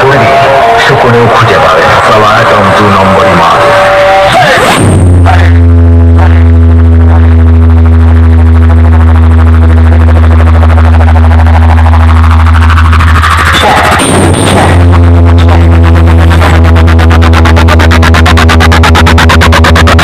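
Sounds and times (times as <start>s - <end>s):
deep buzzy bass tone: 0.0s - 20.0s.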